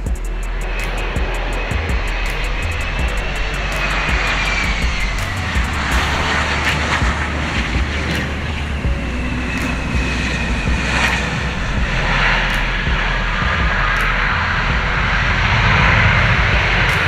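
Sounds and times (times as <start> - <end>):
jet engines whining: 0.0 - 17.0
wind buffeting microphone: 0.0 - 17.0.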